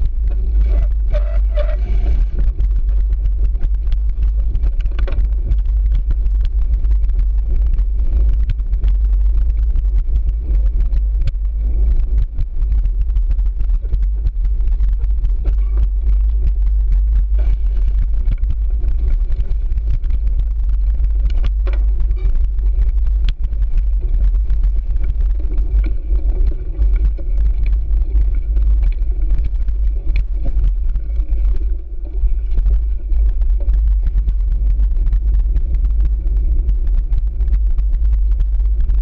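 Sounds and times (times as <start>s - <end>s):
bike rattling: 0.0s - 39.0s
wind and tyre rumble: 0.0s - 39.0s.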